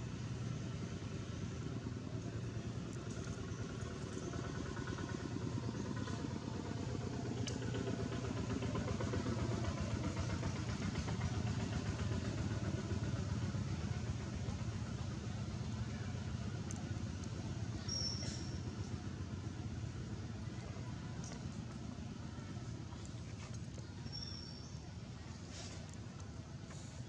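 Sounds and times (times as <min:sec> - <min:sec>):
small engine idling: 0:00.0 - 0:27.0.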